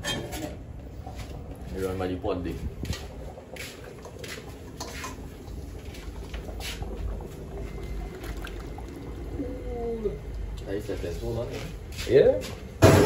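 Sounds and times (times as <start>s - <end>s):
boiling pot rumble: 0.0s - 13.0s.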